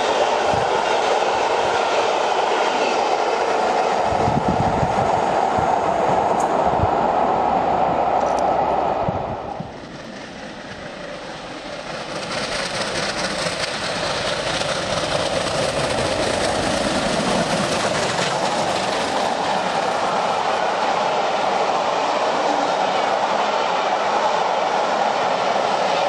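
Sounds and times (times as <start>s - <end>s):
steam locomotive running: 0.0s - 26.0s
train rumbling over rails: 0.0s - 26.0s.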